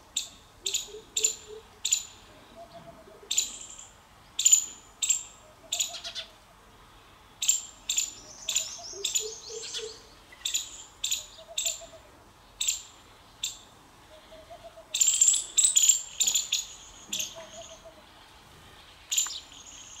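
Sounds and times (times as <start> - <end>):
small birds chirping: 0.1 - 6.4, 7.3 - 20.0.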